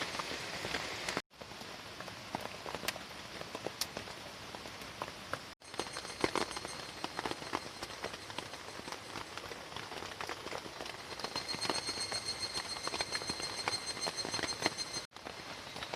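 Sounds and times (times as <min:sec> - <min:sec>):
rain falling on a tarp: 0:00.0 - 0:15.9
raindrops ticking: 0:00.0 - 0:15.9.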